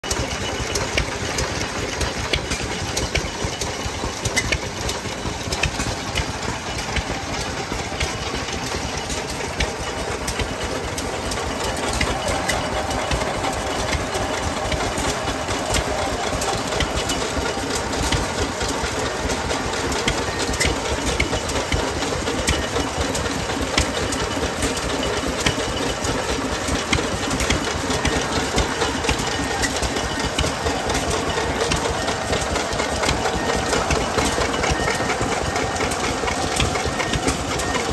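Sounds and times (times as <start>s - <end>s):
old engine running: 0.0s - 37.9s.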